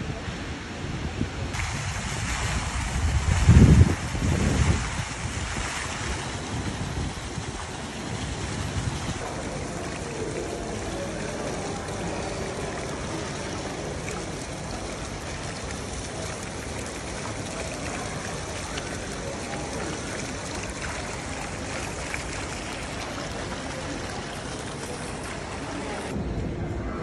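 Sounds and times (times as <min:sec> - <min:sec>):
fountain water splashing: 0:00.0 - 0:26.2.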